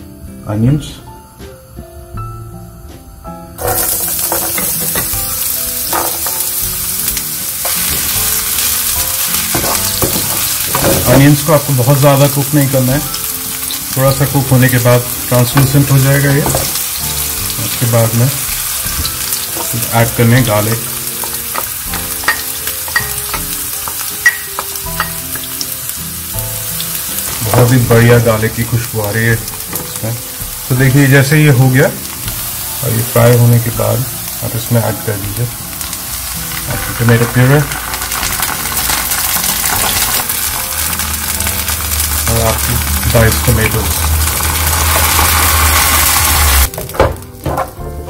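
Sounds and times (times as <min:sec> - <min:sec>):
onions sizzling in hot oil: 0:03.4 - 0:47.9.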